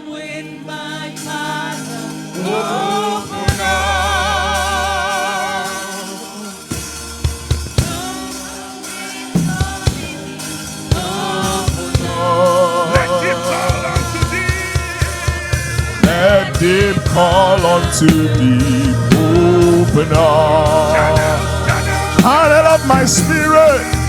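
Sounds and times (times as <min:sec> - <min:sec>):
church choir singing: 0:00.0 - 0:24.0
sustained chords: 0:00.0 - 0:24.0
drum kit beat: 0:01.2 - 0:24.0.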